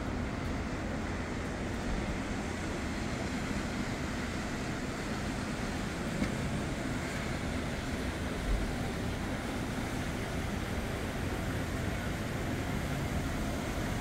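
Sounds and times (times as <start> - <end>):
distant airport rumble and hiss: 0.0 - 14.0.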